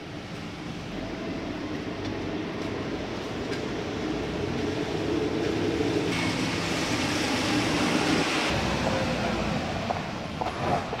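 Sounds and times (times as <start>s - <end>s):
tyres hissing on wet road: 0.0s - 10.7s
traffic rumble: 0.0s - 11.0s.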